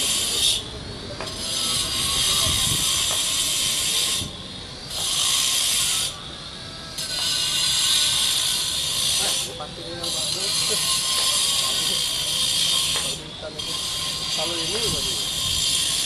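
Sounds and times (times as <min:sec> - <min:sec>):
angle grinder grinding stone: 0:00.0 - 0:06.3, 0:06.9 - 0:16.0.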